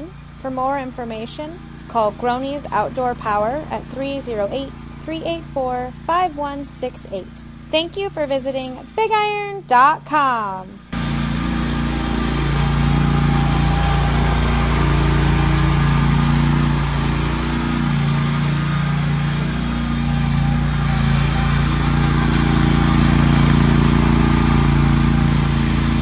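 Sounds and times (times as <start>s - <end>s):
riding lawn mower engine running: 0.0s - 26.0s.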